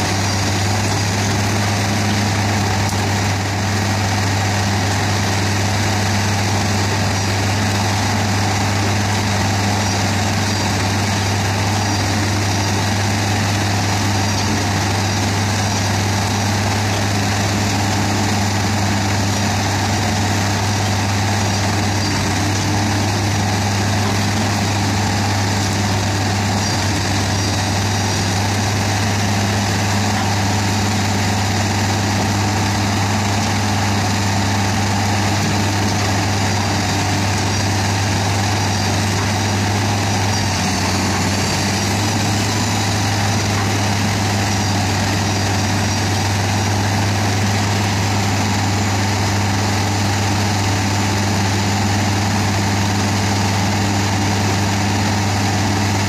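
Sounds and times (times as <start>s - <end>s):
machine engine drone: 0.0s - 56.0s
shredder running: 0.0s - 56.0s.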